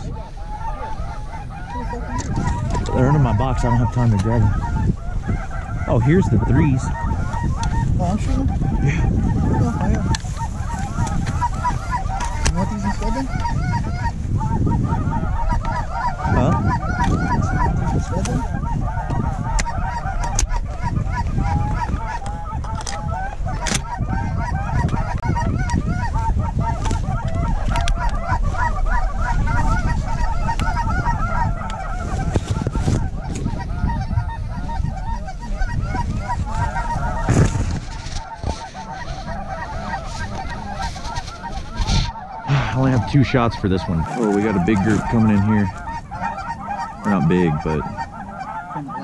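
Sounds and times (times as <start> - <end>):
geese honking: 0.0 - 49.0.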